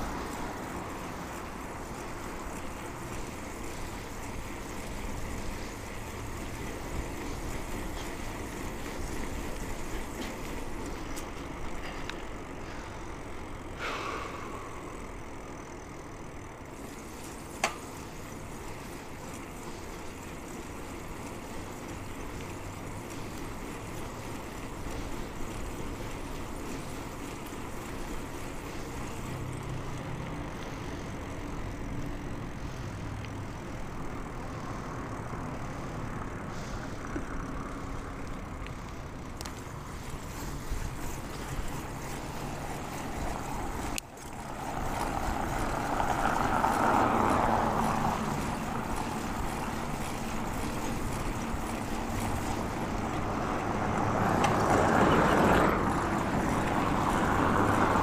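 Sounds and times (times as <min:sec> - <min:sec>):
bicycle road noise: 0:00.0 - 0:58.0.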